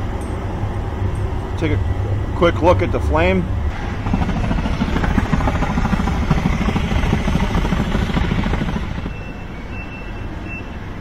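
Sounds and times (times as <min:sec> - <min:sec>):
gas burner flame rumbling: 0:00.0 - 0:09.6.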